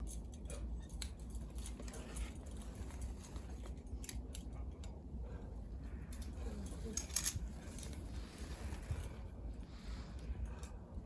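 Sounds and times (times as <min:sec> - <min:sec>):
light clicks and clinks: 0:00.0 - 0:11.0
low steady rumble: 0:00.0 - 0:11.0.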